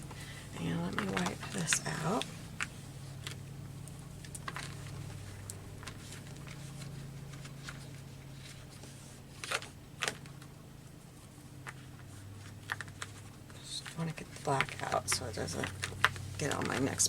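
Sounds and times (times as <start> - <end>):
low steady hum: 0.0 - 17.0
rustling rubs and taps: 0.0 - 17.0.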